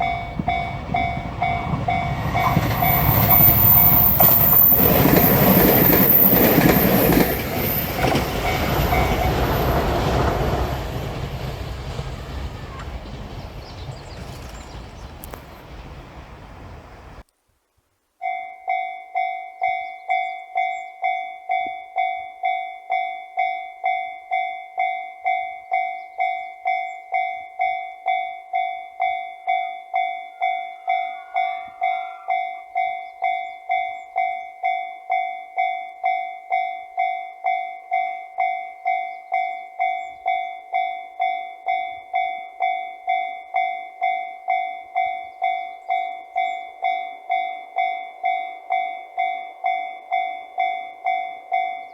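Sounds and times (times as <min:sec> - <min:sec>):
crossing warning bell clanging: 0:00.0 - 0:16.9, 0:18.2 - 0:51.9.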